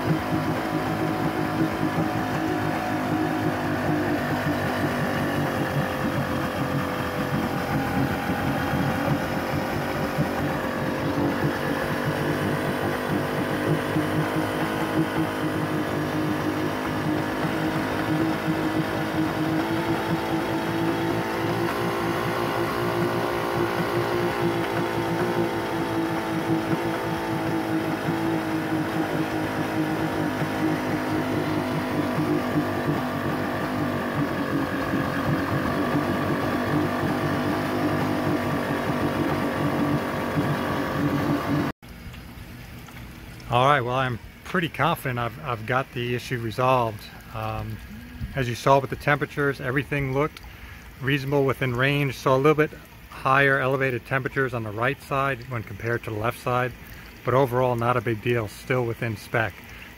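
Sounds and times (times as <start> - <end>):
outboard engine running: 0.0 - 59.9.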